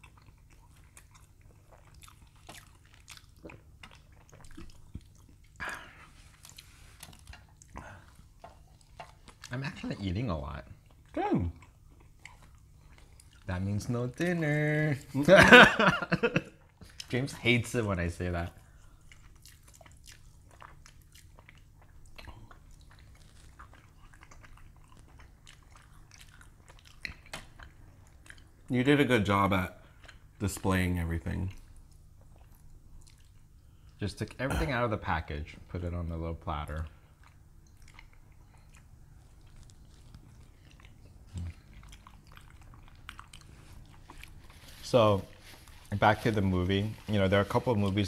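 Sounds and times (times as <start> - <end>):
low steady hum: 0.0 - 48.0
people chewing food: 0.0 - 48.0.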